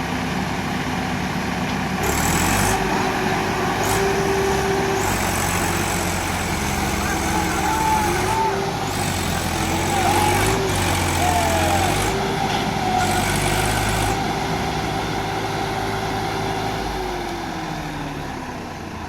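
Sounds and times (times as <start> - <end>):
tractor diesel engines running hard: 0.0 - 19.0.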